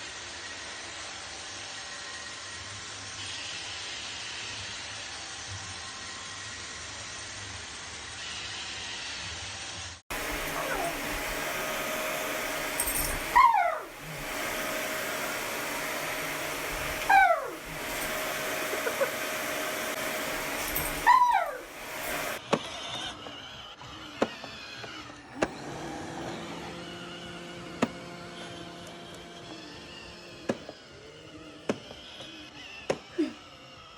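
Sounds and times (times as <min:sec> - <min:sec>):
vacuum cleaner motor humming: 0:00.0 - 0:33.9.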